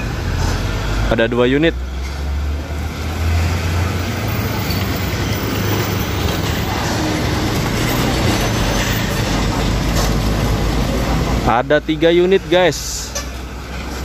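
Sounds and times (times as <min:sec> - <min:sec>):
dump trucks driving past: 0:00.0 - 0:14.0.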